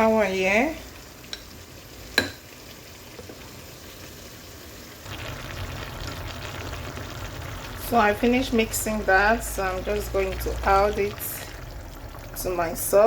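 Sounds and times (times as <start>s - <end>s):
steady stirring noise: 0.8s - 13.0s.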